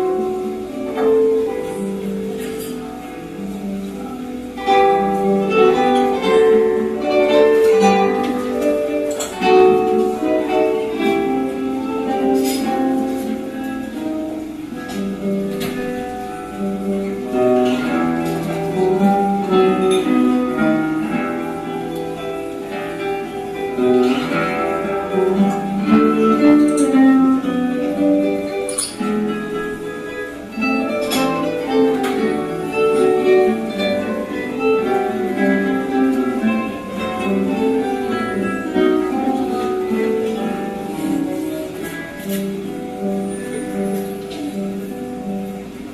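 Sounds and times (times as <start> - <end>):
guitar quartet playing: 0.0 - 45.9.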